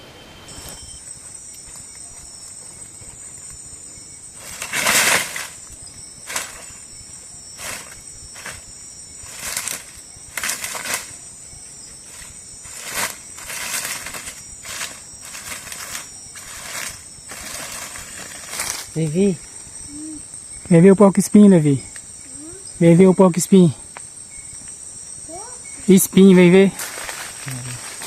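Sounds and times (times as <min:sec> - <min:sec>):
night insects chirring: 0:00.0 - 0:28.0.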